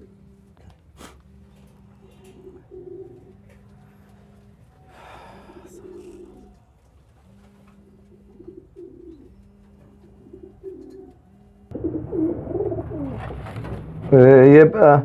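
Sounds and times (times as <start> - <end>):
pigeons cooing: 0.0 - 14.1.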